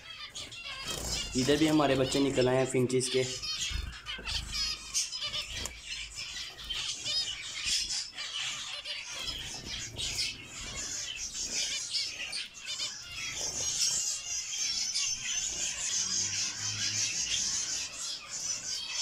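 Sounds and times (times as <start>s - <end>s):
finches chirping: 0.0s - 19.0s.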